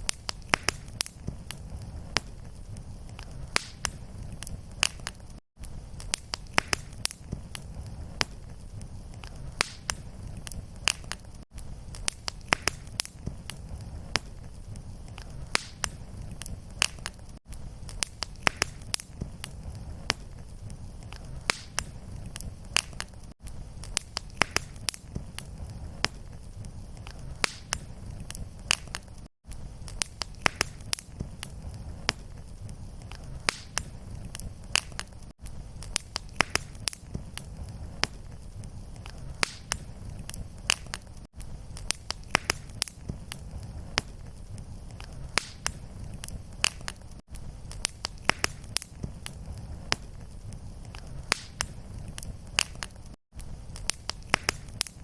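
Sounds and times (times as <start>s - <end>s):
fire crackling and popping: 0.0s - 55.0s
low flame rumble: 0.0s - 55.0s.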